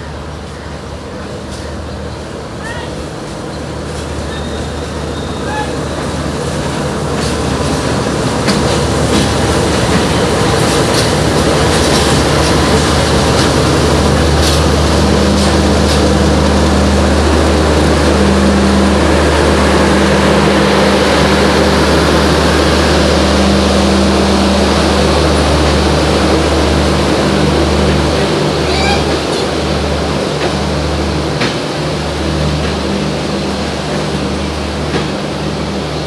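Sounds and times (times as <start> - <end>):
train rumbling slowly: 0.0 - 36.0.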